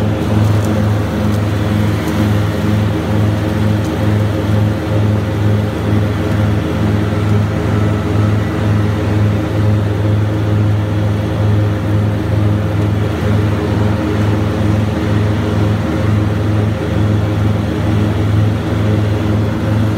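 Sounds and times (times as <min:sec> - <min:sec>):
diesel mower engine running: 0:00.0 - 0:19.9.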